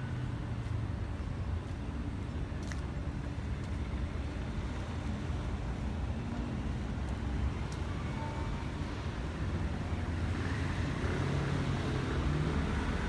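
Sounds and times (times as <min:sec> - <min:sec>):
city road traffic rumble: 0:00.0 - 0:13.0.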